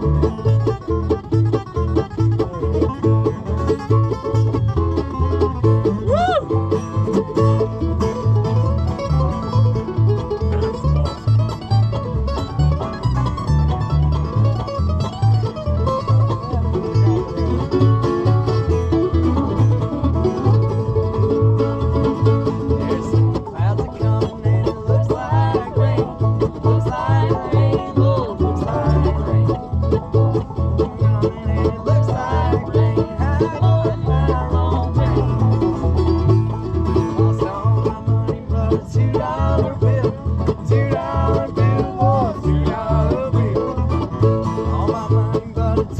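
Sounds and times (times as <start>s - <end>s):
banjo picking: 0.0s - 45.9s
bluegrass band playing: 0.0s - 45.9s
low bass notes: 0.0s - 45.9s.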